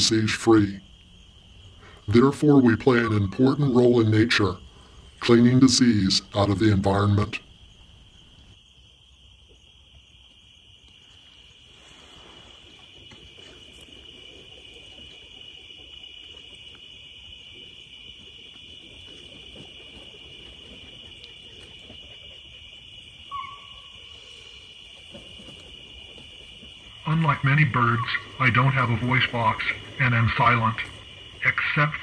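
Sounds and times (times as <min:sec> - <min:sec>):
insect chorus drone: 0:00.0 - 0:32.0
short loud insect call: 0:00.0 - 0:32.0.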